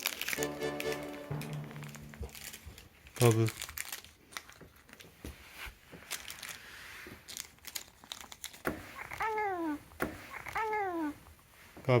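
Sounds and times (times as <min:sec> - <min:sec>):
crinkling and rustling: 0:00.0 - 0:12.0.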